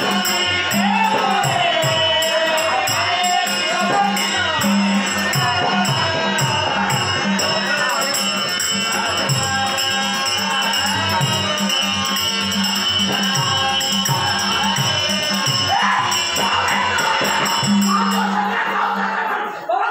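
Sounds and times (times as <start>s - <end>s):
hand cymbals: 0.0s - 19.0s
harmonium: 0.0s - 19.6s
man singing: 0.0s - 19.9s.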